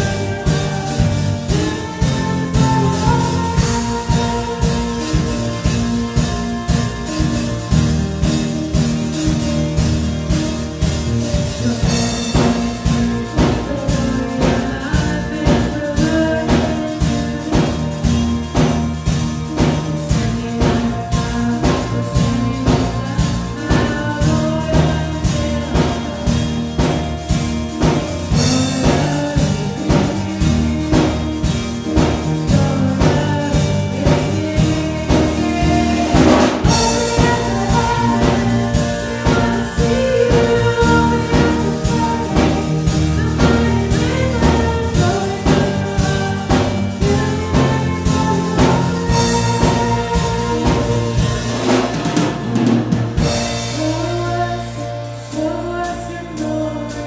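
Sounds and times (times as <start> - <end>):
woman singing lead: 0.0 - 7.8, 11.3 - 18.9, 19.5 - 52.1, 53.2 - 57.0
rock band playing: 0.0 - 57.0.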